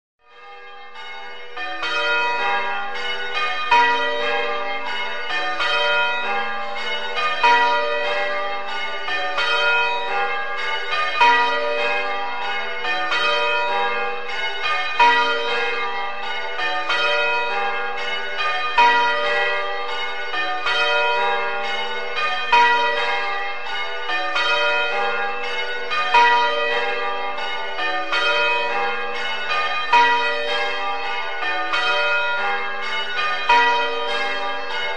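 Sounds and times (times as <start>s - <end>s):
church bells ringing: 0.2s - 34.9s.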